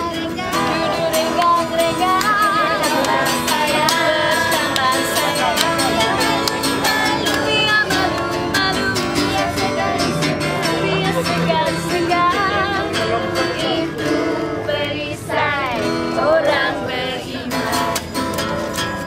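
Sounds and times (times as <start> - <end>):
person singing with vibrato: 0.0 - 18.2.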